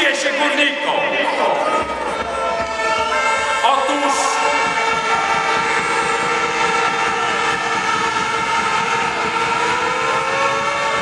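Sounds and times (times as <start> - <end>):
crowd blowing horns: 0.3 - 11.0.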